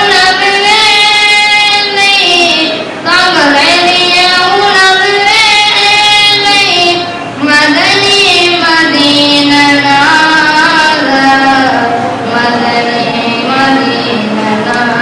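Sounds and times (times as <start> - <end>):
boy chanting into a microphone: 0.0 - 15.0.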